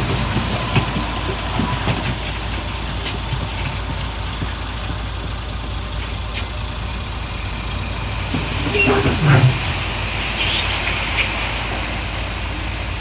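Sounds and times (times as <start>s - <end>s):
knocks and clanks: 0.0s - 11.5s
diesel engine running: 0.0s - 13.0s.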